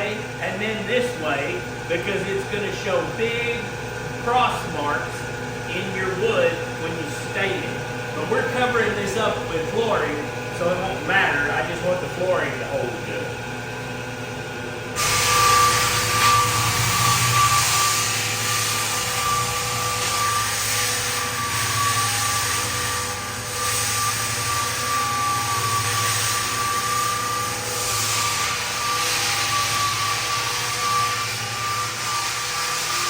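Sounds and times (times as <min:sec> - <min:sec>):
floor sander motor hum and whine: 0:00.0 - 0:33.0.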